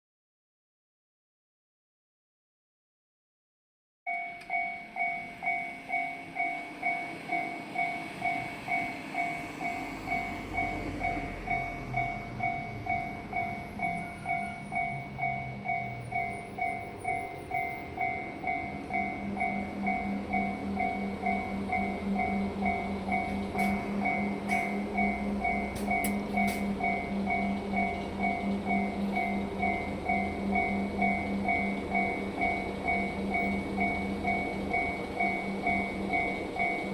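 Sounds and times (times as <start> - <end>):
level crossing bell ringing: 4.1 - 36.9.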